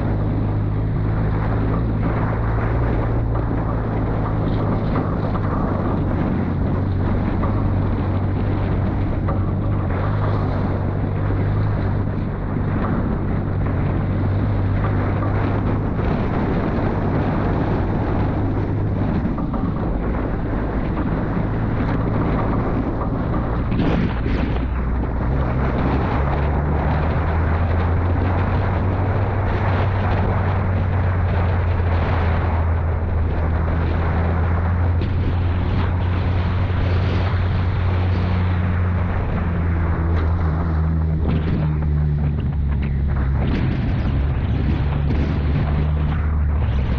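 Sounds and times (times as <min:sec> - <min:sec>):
vehicle engine humming: 0:00.0 - 0:46.9
wind and driving noise: 0:00.0 - 0:46.9.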